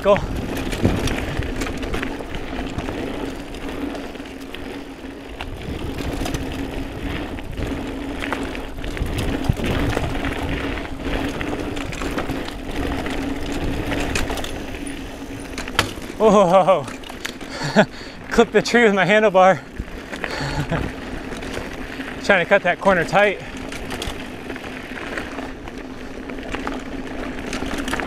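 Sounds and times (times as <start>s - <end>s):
bike clicks and rattles: 0.0s - 28.0s
bike tyre rumble on dirt: 0.0s - 28.0s
freehub buzz while coasting: 0.0s - 28.0s.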